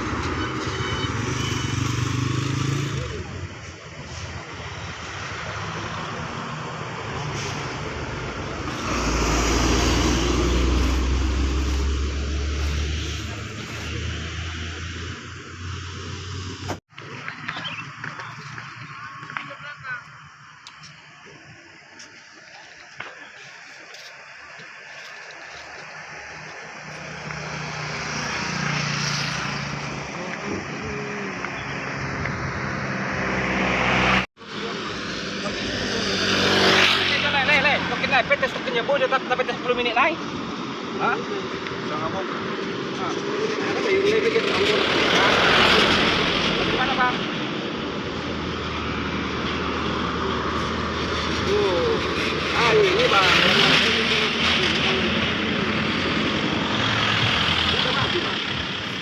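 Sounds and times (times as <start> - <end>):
vehicle passing by: 1.2 - 16.7, 25.9 - 39.4, 40.2 - 59.0.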